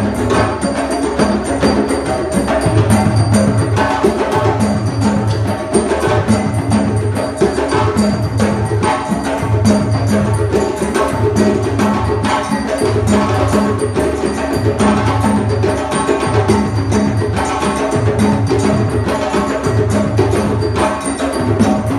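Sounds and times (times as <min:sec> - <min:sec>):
bass drums with bells: 0:00.0 - 0:21.9
djembe slaps and tones: 0:00.0 - 0:21.9.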